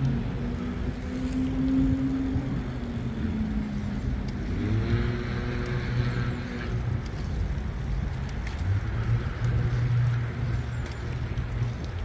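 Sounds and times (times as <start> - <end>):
bicycle rolling rumble: 0.0 - 12.0
low vehicle motor hum: 0.0 - 12.0
wind on microphone: 0.0 - 12.0.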